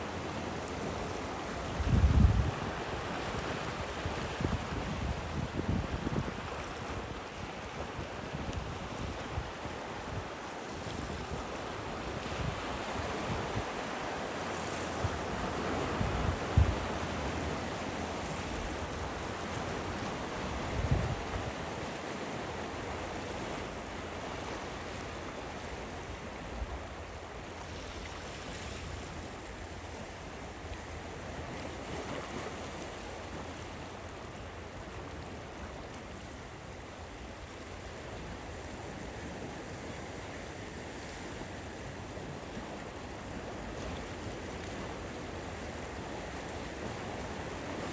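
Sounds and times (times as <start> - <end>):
waves washing onto beach: 0.0 - 47.9
wind rumble on microphone: 0.6 - 47.9.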